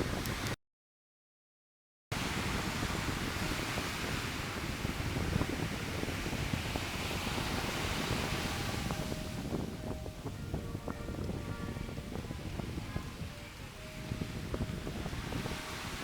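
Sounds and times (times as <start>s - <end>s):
wind on microphone: 0.0s - 0.6s, 2.1s - 16.0s
ocean surf: 2.2s - 16.0s.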